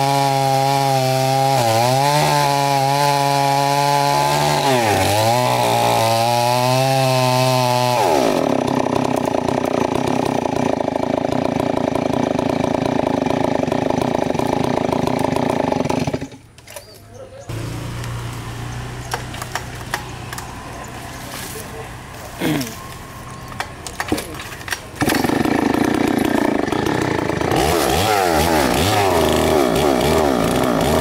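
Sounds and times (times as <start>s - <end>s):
chainsaw cutting tree trunk: 0.0s - 16.4s, 17.5s - 20.9s, 23.5s - 31.0s.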